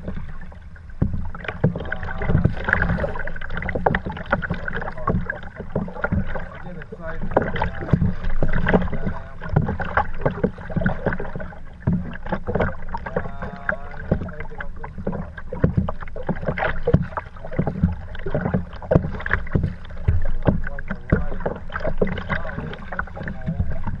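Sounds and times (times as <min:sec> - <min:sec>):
water splashing against boat hull: 0:00.0 - 0:24.0.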